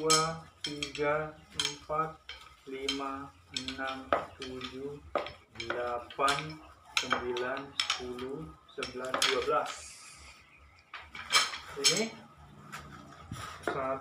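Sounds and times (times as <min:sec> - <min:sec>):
metal tubes clinking: 0:00.0 - 0:14.0
metal tubes scraping and squeaking: 0:00.0 - 0:14.0.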